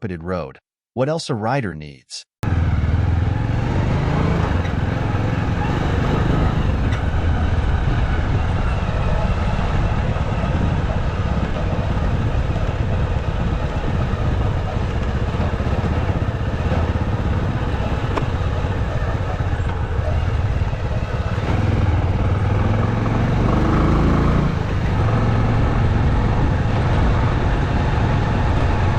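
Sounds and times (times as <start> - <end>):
motorcycle engine running: 2.4 - 28.9.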